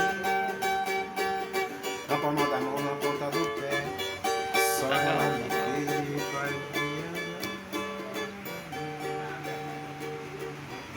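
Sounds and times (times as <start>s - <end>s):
cavaquinho strumming: 0.0s - 10.9s.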